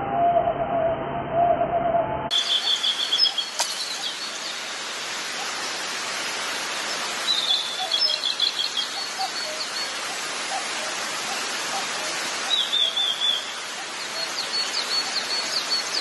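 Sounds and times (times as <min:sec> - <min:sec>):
birds chirping: 0:02.3 - 0:16.0
steady outdoor hiss: 0:02.3 - 0:16.0.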